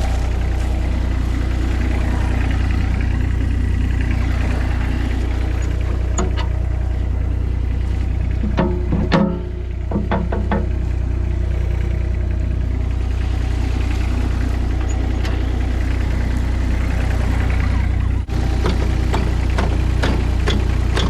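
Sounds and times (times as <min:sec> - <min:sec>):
loader engine idling: 0:00.0 - 0:21.0.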